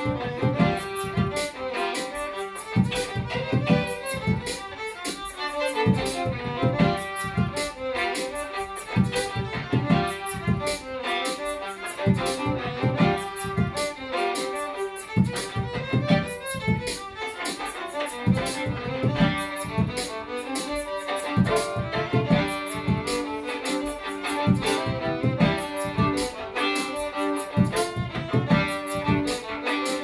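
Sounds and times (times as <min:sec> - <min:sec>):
beatbox rhythm: 0:00.0 - 0:30.0
two violins playing fiddle tune: 0:00.0 - 0:30.0.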